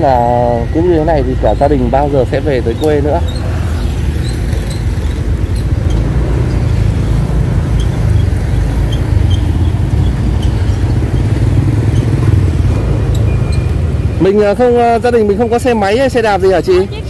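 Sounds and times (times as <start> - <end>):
motorbike engines: 0.0 - 17.0
road traffic rumble: 0.0 - 17.0.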